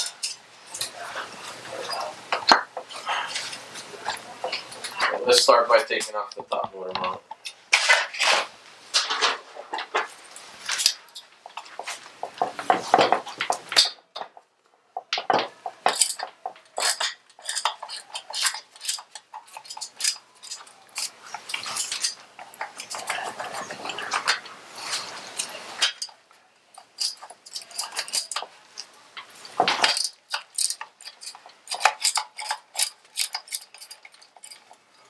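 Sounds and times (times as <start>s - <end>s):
metal tools clinking and rattling: 0.0s - 6.4s, 8.9s - 14.4s, 15.0s - 35.0s.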